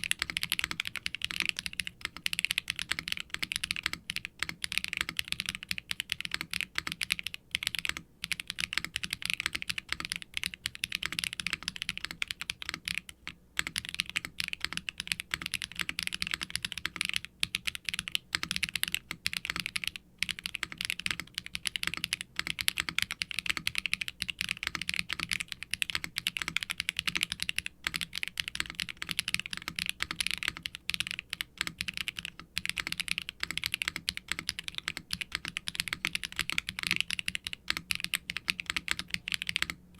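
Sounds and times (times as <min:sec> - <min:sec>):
fast typing on mechanical keyboard: 0:00.0 - 0:39.8.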